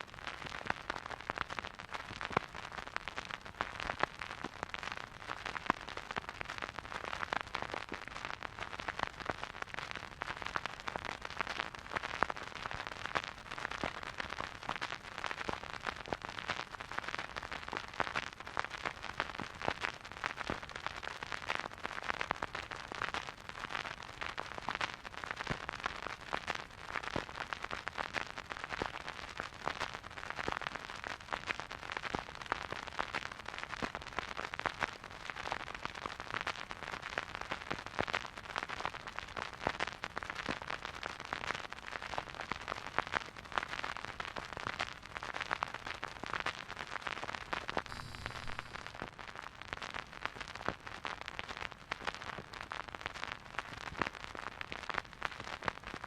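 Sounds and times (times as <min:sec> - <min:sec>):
vinyl record crackle and hiss: 0:00.0 - 0:56.0.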